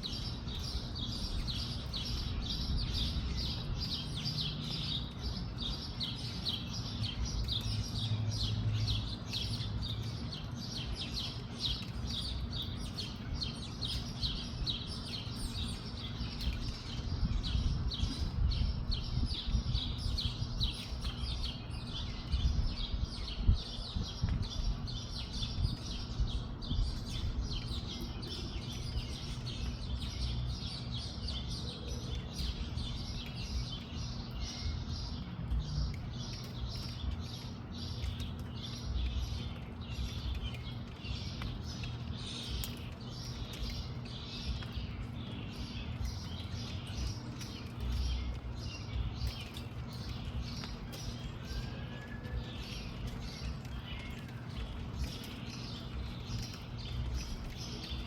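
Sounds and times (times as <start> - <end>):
small birds chirping: 0.0 - 58.0
wind rumble on microphone: 0.0 - 58.0.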